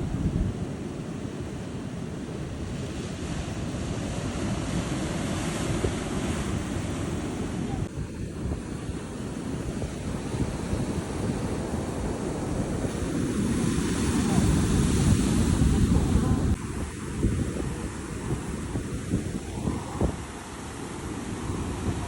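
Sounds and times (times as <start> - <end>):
ocean waves breaking on shore: 0.0 - 22.0
wind buffeting microphone: 0.0 - 22.0.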